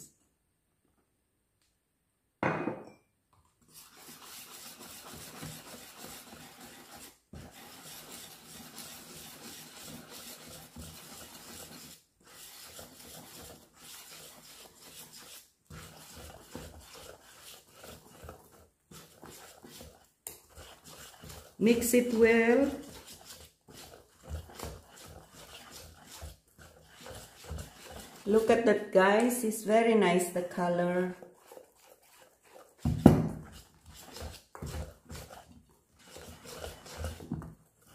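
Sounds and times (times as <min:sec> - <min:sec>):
whisk scraping a steel bowl: 0:03.6 - 0:37.9.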